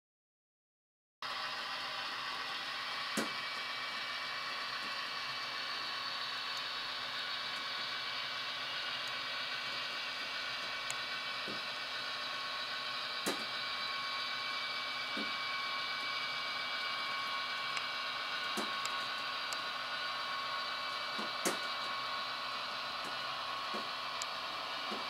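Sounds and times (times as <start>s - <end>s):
faint high whine: 1.2s - 25.0s
model railcar hum and hiss: 1.2s - 25.0s.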